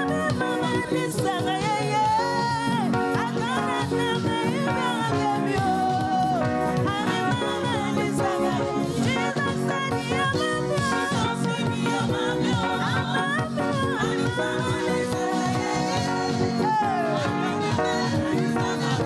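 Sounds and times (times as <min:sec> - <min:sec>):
band playing dance beat: 0:00.0 - 0:19.0
people singing: 0:00.0 - 0:19.0.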